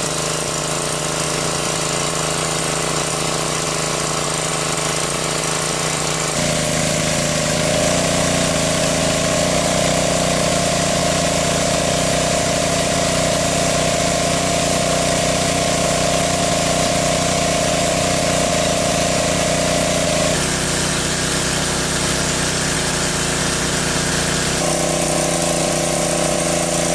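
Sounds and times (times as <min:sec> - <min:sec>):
small engine running: 0:00.0 - 0:26.9.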